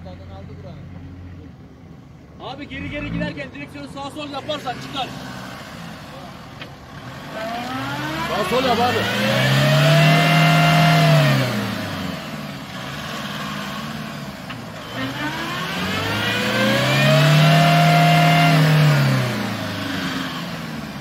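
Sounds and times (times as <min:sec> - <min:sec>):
pickup engine revving: 0:00.0 - 0:21.0.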